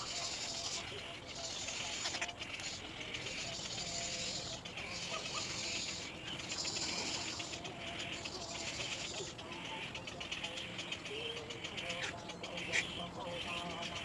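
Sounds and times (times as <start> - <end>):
bird chick rasping calls: 0.0 - 14.0.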